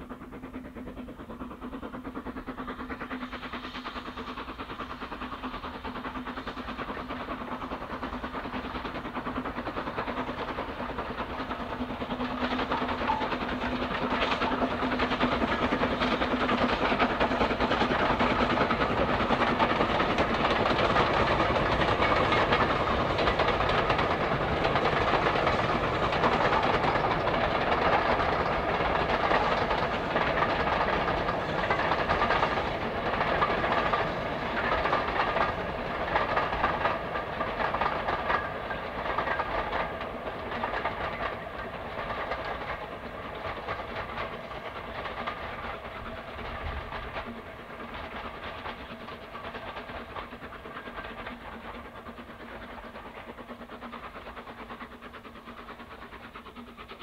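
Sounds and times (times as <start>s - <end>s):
steam train running past: 0.0s - 57.0s.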